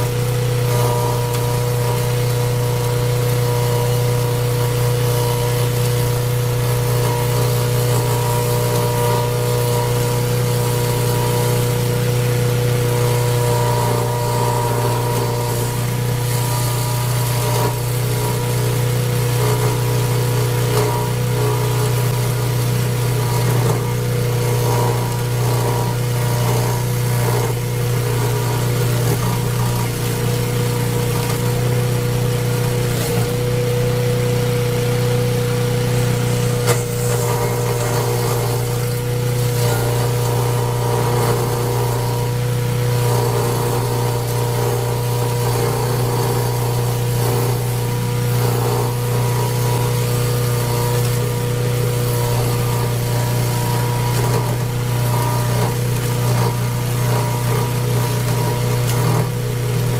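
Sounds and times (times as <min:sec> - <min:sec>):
machine engine humming: 0:00.0 - 0:59.9.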